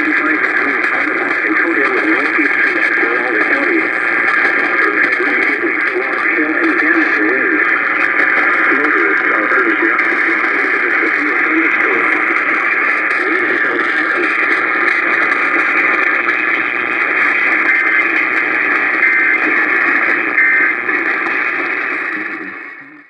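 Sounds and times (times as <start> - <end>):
faint garbled radio audio: 0.0 - 23.0
radio static and hiss: 0.0 - 23.0.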